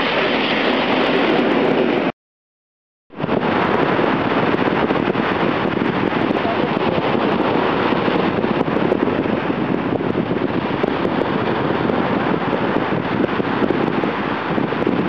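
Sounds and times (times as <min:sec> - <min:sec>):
wind buffeting microphone: 0:00.0 - 0:02.1, 0:03.1 - 0:15.0.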